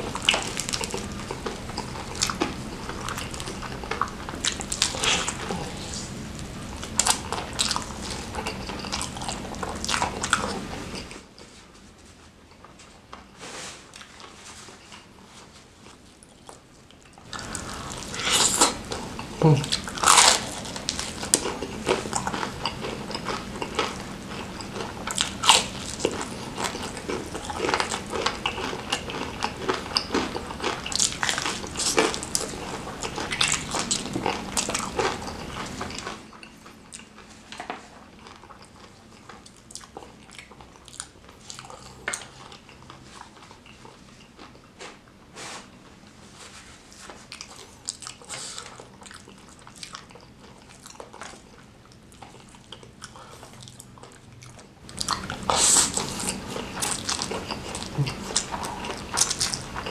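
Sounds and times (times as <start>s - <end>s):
crunching and chewing fried chicken: 0.0s - 11.5s, 12.6s - 59.9s.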